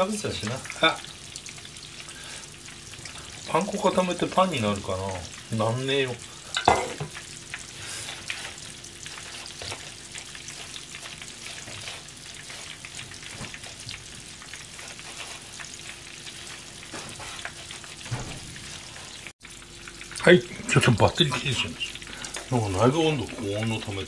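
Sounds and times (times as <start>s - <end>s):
hot oil sizzling and crackling: 0.0s - 24.0s.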